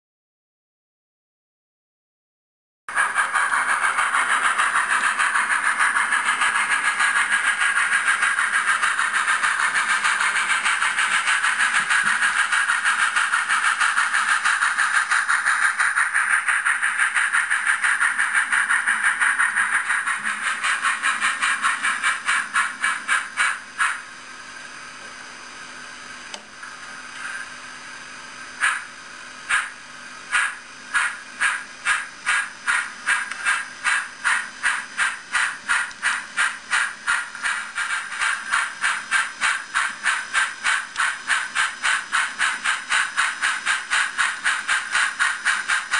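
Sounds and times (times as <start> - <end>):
model steam locomotive chuffing: 2.9 - 45.9.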